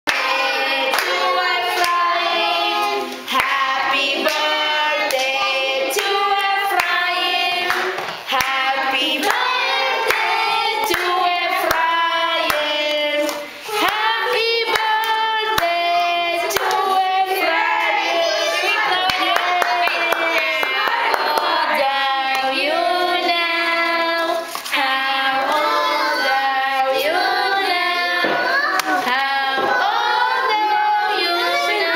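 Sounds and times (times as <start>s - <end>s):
people clapping along: 0.1s - 30.8s
children and women singing: 0.1s - 31.9s.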